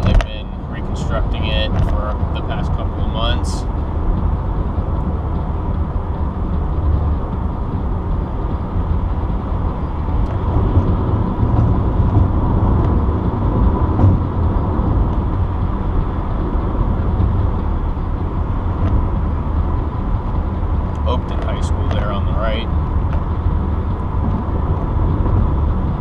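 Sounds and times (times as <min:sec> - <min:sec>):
car driving on highway: 0:00.0 - 0:26.0.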